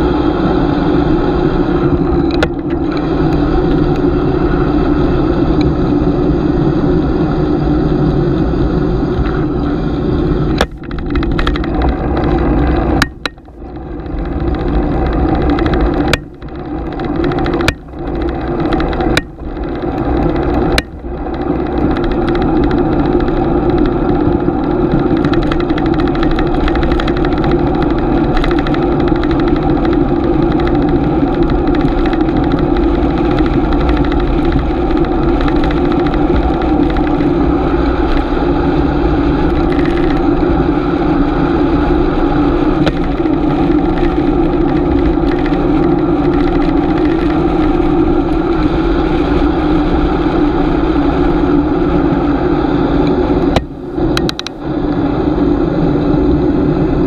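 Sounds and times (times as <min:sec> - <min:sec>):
bicycle riding rushing hum: 0:00.0 - 0:57.0.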